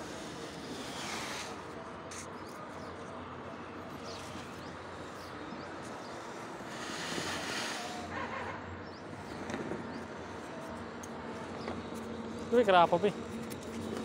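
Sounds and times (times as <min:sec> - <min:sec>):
faint outdoor hum: 0:00.0 - 0:14.0.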